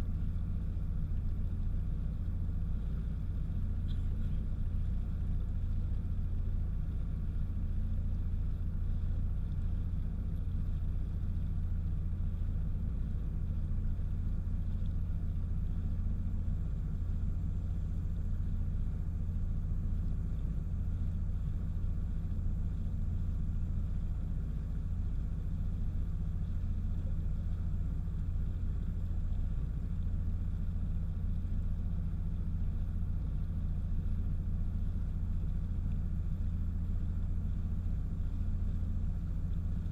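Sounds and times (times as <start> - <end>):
engine rumble: 0.0 - 39.9.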